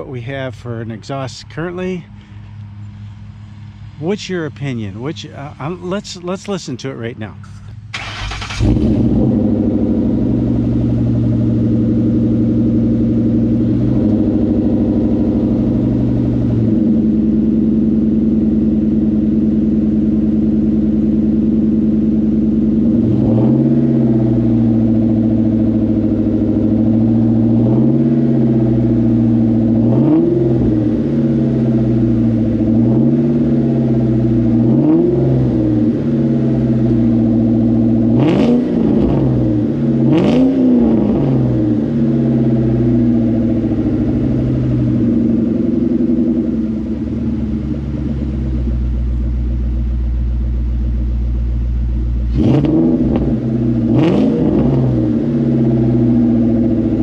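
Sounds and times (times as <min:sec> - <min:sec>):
car engine idling with revs: 0:00.0 - 0:57.0.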